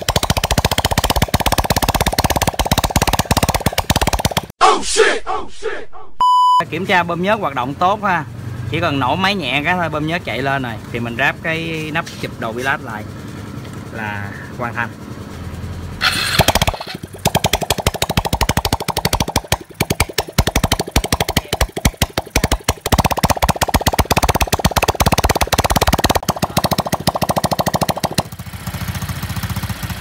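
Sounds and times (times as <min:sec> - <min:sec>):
motorcycle engine running: 0:00.0 - 0:04.5, 0:07.9 - 0:30.0.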